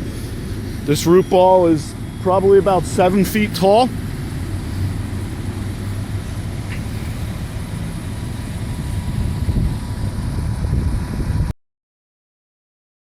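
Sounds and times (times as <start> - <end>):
heavy vehicle engine idling: 0.0 - 11.5.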